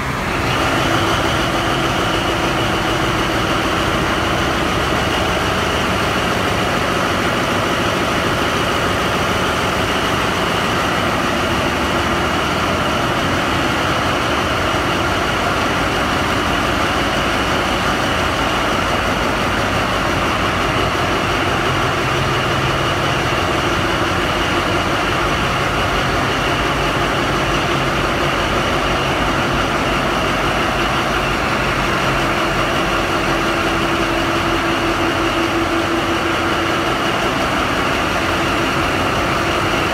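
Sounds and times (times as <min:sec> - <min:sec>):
diesel engine loud drone: 0:00.0 - 0:39.9.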